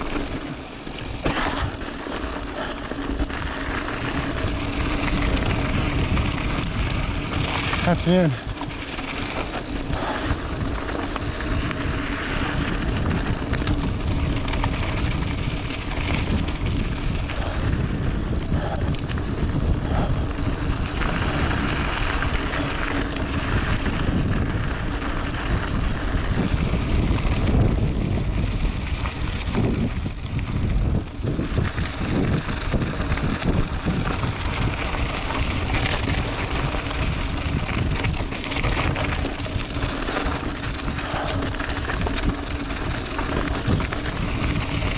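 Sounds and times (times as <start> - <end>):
bike rattling: 0.0 - 44.9
bike tyres rumbling on gravel: 0.0 - 44.9
wind buffeting microphone: 0.0 - 44.9.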